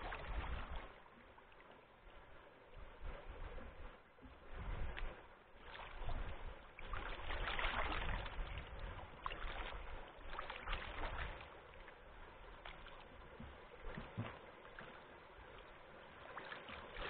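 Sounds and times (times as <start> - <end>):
wind rumble on microphone: 0.0 - 1.2, 2.0 - 14.5
water rushing and splashing: 0.0 - 17.0.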